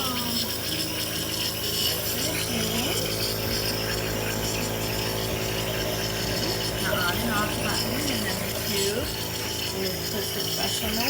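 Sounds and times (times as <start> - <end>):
nebulizer compressor humming: 0.0 - 11.0.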